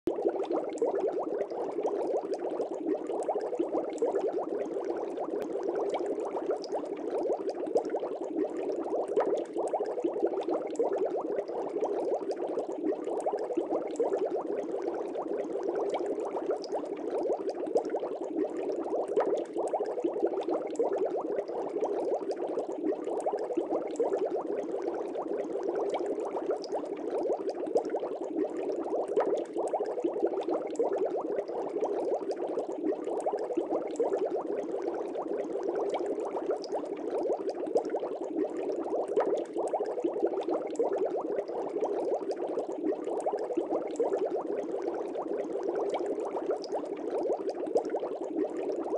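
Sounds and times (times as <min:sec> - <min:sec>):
aquarium air bubbles: 0:00.1 - 0:48.9.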